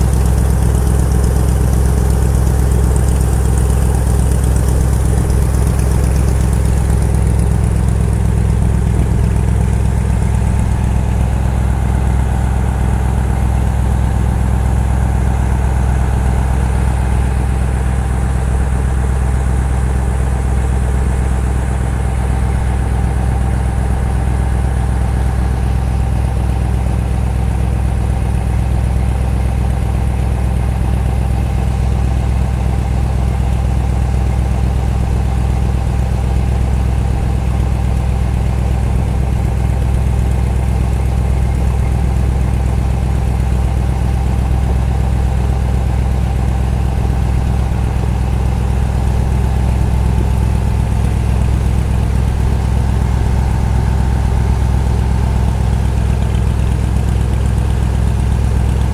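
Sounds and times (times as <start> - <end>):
boat engine drone: 0.0 - 58.9.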